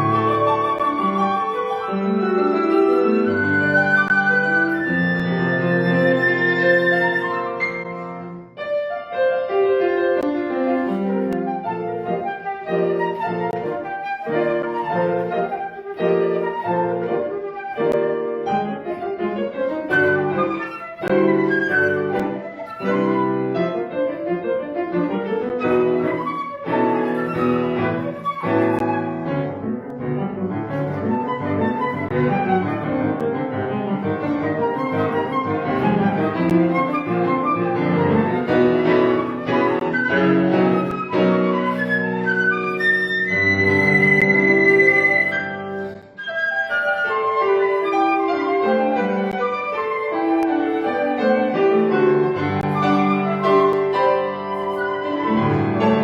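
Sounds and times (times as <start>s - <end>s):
flute melody: 0.0s - 56.0s
piano chords: 0.0s - 56.0s.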